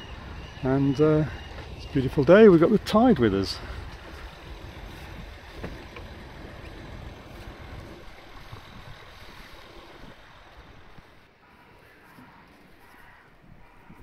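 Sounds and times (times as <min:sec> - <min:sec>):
low rumble and hiss aboard boat: 0:00.0 - 0:14.0.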